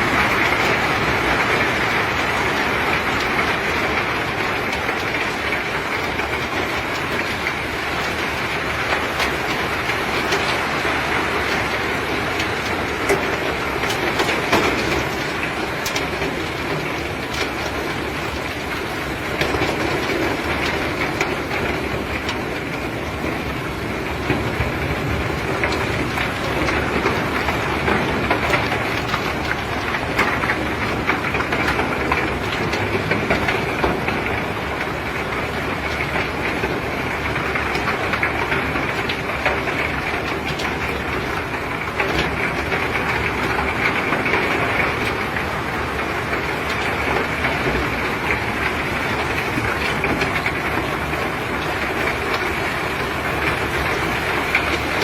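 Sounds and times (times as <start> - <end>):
heavy machinery rumble: 0.0 - 55.0.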